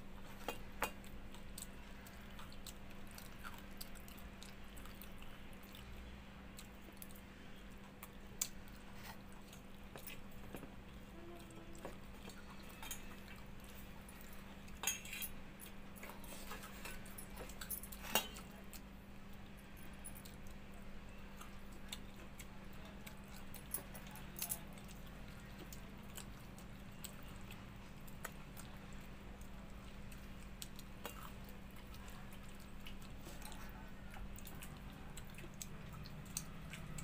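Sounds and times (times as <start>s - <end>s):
soft chewing: 0.0s - 37.0s.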